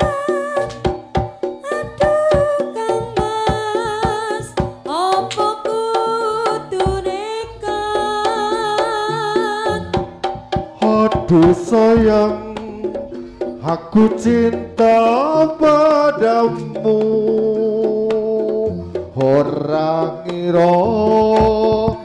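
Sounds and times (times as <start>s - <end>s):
hand drums beating busy rhythm: 0.0s - 22.0s.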